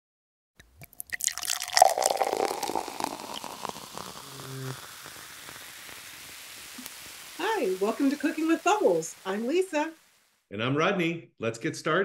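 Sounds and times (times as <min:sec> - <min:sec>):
sparkling wine fizzing: 0:00.6 - 0:10.5.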